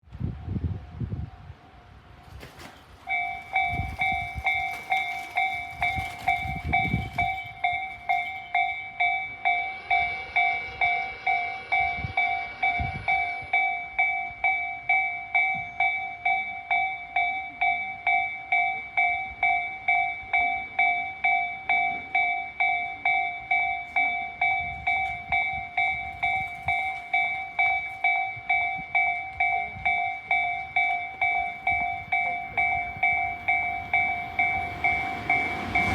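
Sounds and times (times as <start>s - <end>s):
level crossing warning bell ringing: 3.1s - 35.9s.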